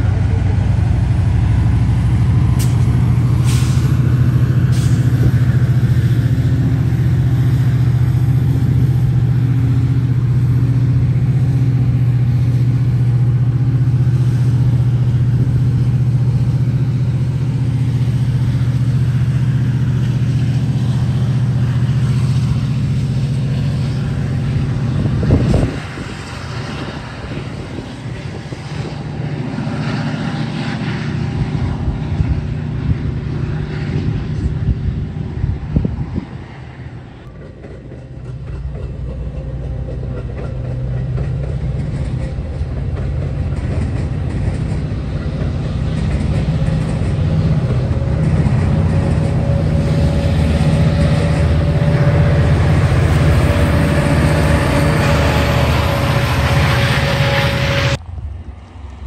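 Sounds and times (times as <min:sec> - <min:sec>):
locomotive engine droning: 0:00.0 - 0:59.0.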